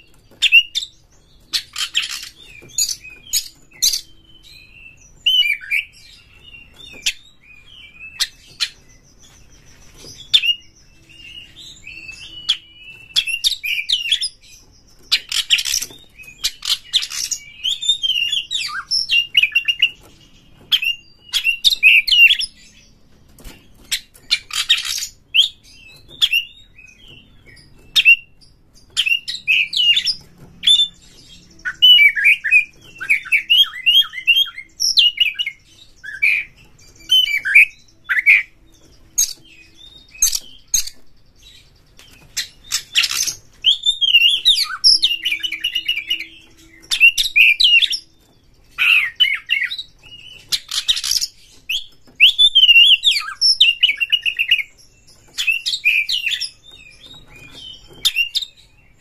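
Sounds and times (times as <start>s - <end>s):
bird singing chirps and whistles: 0.0s - 59.0s
harsh bird calls: 0.0s - 59.0s.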